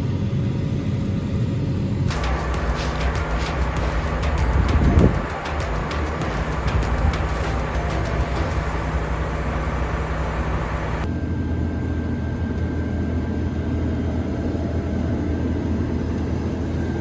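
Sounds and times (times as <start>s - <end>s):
combine harvester engine drone: 0.0s - 17.0s
faint constant whine: 0.0s - 17.0s.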